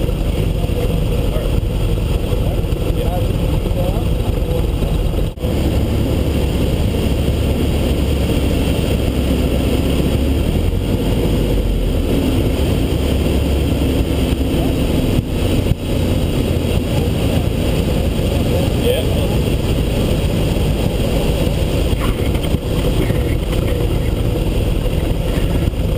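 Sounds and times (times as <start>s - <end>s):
light aircraft engine and propeller: 0.0s - 25.9s
rushing air: 0.0s - 25.9s.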